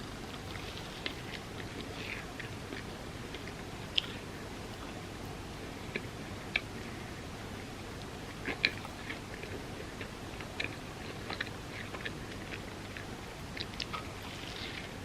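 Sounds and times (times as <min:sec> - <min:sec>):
person chewing and eating: 0:00.0 - 0:15.0.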